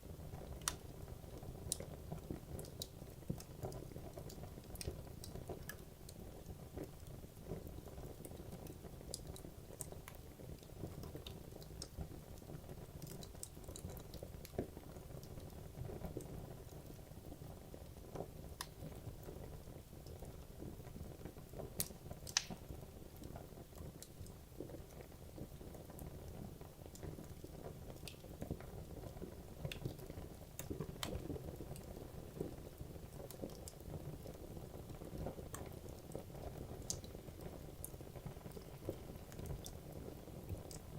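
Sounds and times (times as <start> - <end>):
fire crackles and pops: 0.0 - 40.9
wood fire burning: 0.0 - 40.9.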